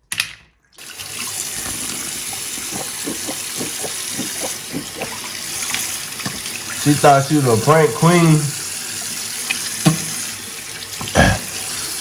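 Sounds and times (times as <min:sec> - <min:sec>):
tap water running into sink: 0:00.8 - 0:12.0
water splashing: 0:00.8 - 0:12.0.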